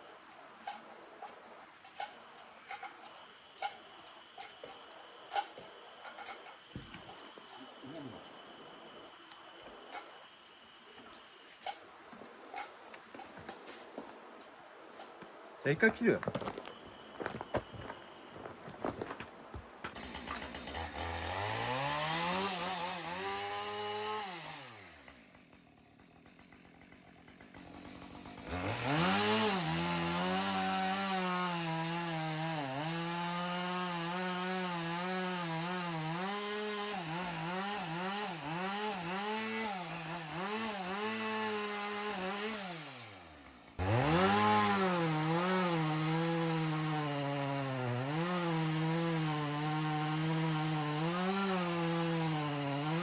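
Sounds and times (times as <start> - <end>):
chainsaw cutting wood: 2.0 - 11.8, 19.8 - 53.0.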